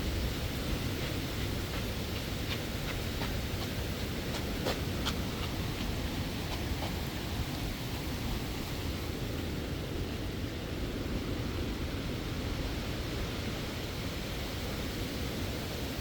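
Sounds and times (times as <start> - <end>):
strong wind: 0.0 - 16.0
wind buffeting microphone: 0.0 - 16.0.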